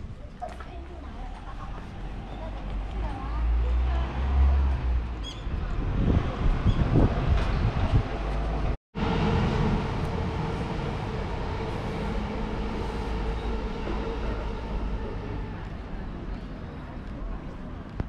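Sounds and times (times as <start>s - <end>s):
passing vehicle rumble: 1.0s - 18.0s.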